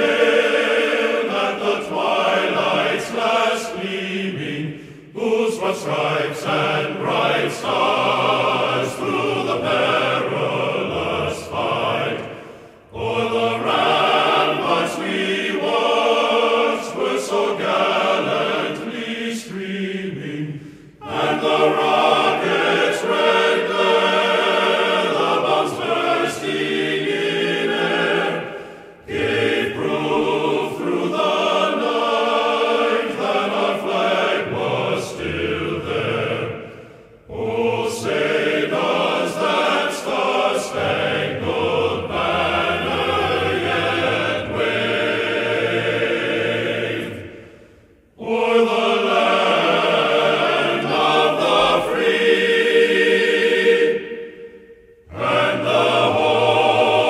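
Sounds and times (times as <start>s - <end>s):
choir singing sustained chords: 0.0s - 57.0s.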